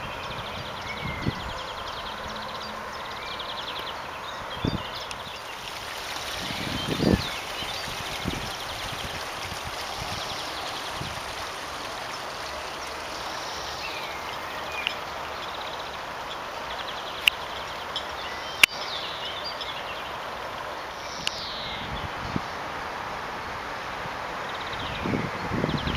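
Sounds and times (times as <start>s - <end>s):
birds singing: 0.0s - 22.7s, 24.4s - 25.9s
stream trickling and splashing: 0.0s - 25.9s.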